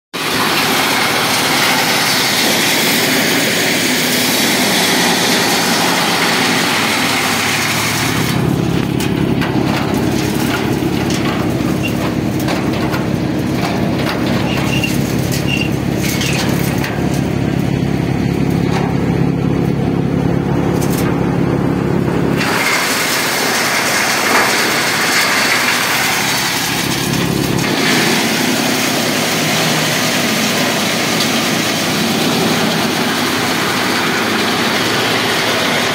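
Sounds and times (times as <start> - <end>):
loud rushing noise: 0.2 - 14.3, 18.0 - 35.9
machine engine humming: 0.2 - 35.9.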